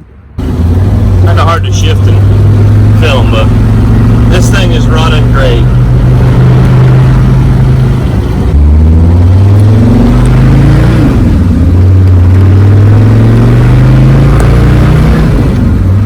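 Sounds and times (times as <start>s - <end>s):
diesel engine accelerating: 0.2s - 16.0s.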